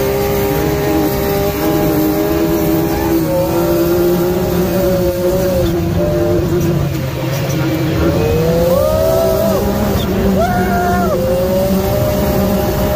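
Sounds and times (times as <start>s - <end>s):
engine running under throttle: 0.0s - 12.9s.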